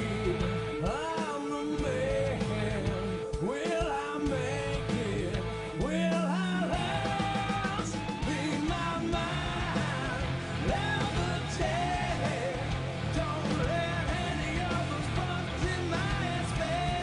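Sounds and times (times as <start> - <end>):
man singing: 0.0 - 17.0
rock band playing live: 0.0 - 17.0.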